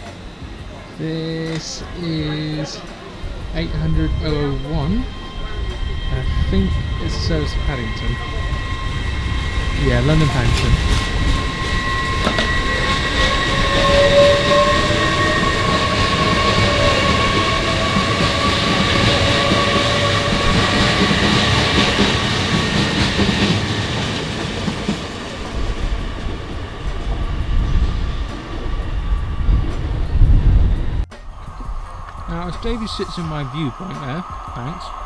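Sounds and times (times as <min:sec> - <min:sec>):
train rumble and wheel noise: 0:00.0 - 0:35.0
train whine: 0:00.0 - 0:35.0.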